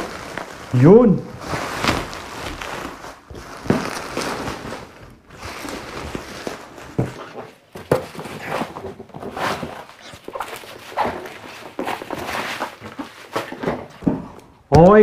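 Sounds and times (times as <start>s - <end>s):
bubble wrap rustling and crinkling: 0.0s - 14.6s.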